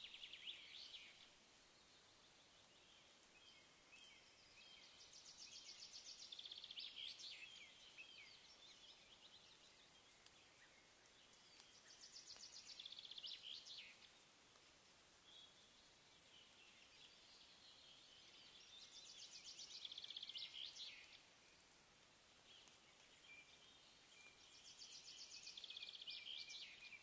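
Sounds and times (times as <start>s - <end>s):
faint steady hiss: 0.0s - 27.0s
songbird singing: 0.0s - 27.0s.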